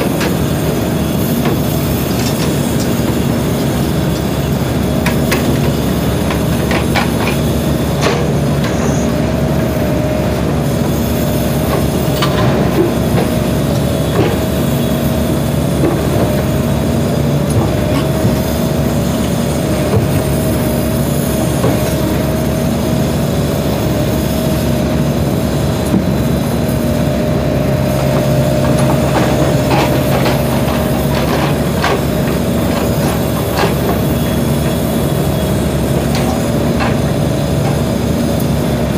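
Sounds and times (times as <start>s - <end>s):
excavator clanks: 0.0s - 9.5s, 11.4s - 38.9s
excavator diesel engine whining: 0.0s - 38.9s.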